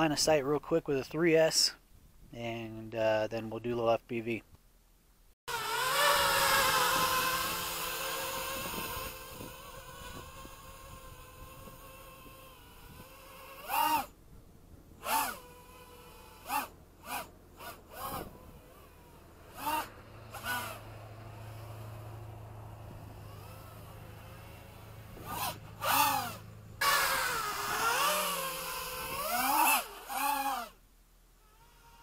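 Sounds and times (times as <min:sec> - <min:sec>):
quadcopter motors whining: 0:05.5 - 0:30.8, 0:31.4 - 0:32.0.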